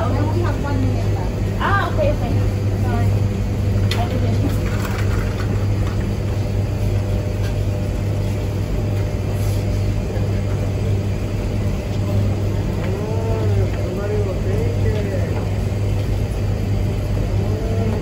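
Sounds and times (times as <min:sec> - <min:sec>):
tumble dryers humming: 0:00.0 - 0:18.0.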